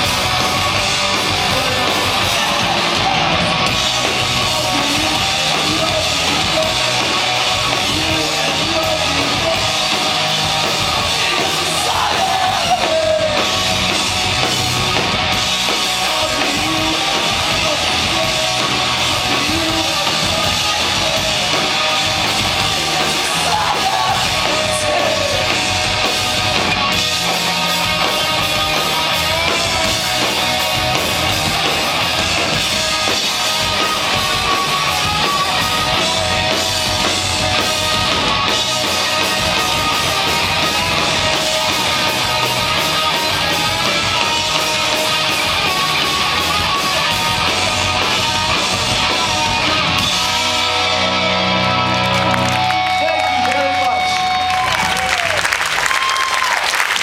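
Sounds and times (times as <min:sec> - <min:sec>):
bass guitar: 0:00.0 - 0:57.0
distorted electric guitars: 0:00.0 - 0:57.0
drums: 0:00.0 - 0:57.0.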